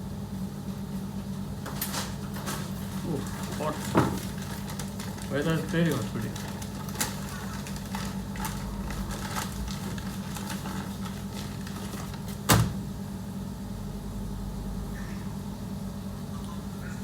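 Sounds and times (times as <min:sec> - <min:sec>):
electrical hum of kitchen equipment: 0:00.0 - 0:17.0.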